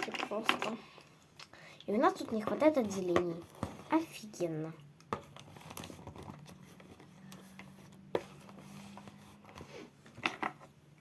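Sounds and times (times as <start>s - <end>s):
pencils clicking and tapping: 0.0s - 10.8s.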